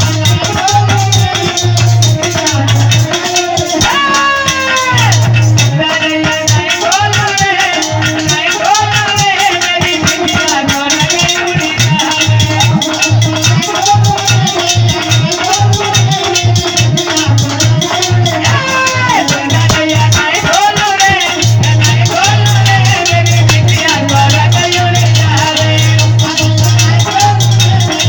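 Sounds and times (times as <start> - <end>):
low drum beat: 0.0 - 28.0
rattling hand percussion: 0.0 - 28.0.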